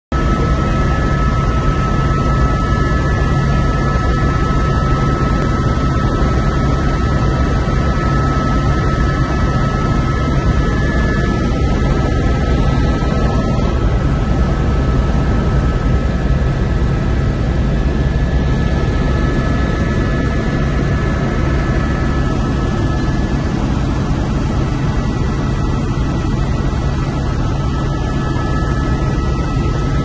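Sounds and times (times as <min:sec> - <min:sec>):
faint high whine: 0:00.1 - 0:30.0
helicopter rotor and engine drone: 0:00.1 - 0:30.0.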